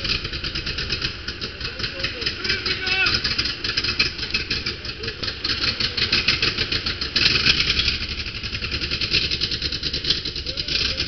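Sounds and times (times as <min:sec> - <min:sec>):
diesel bus engine clattering: 0:00.0 - 0:11.0.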